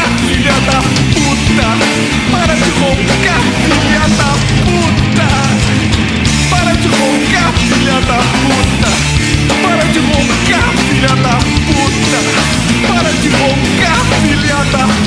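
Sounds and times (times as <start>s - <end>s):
bending guitar notes: 0.0s - 15.0s
rock band playing: 0.0s - 15.0s.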